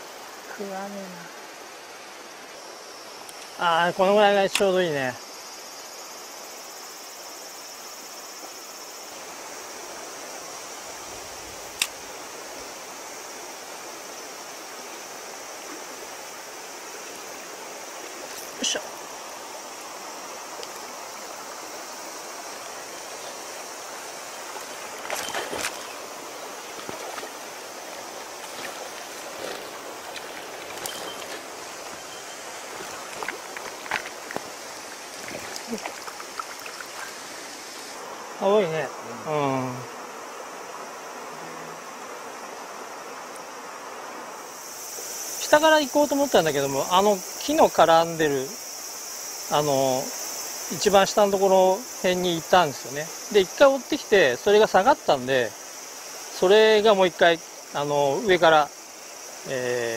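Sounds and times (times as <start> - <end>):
stream running over stones: 0.0 - 39.9, 43.2 - 59.9
high insect drone: 0.0 - 59.9.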